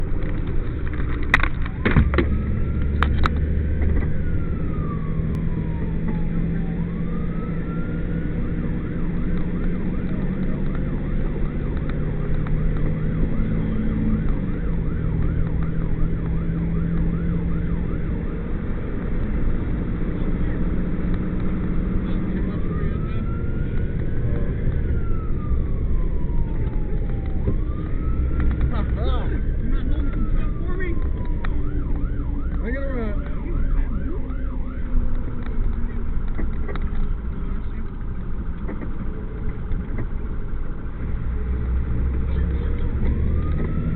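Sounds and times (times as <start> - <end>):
engine and road drone: 0.0 - 43.9
fire engine siren: 0.0 - 43.9.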